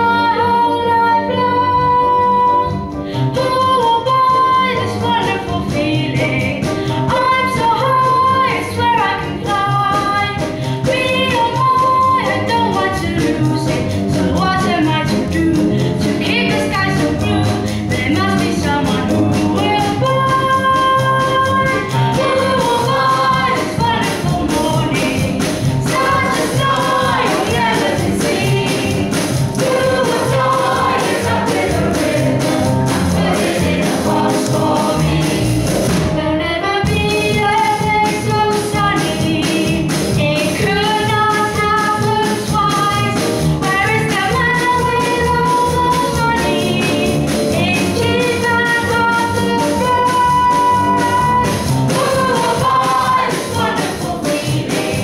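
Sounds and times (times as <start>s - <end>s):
woman singing: 0.0s - 2.8s, 3.4s - 31.6s, 36.2s - 55.0s
accompaniment with steady beat: 9.0s - 36.2s, 36.9s - 55.0s.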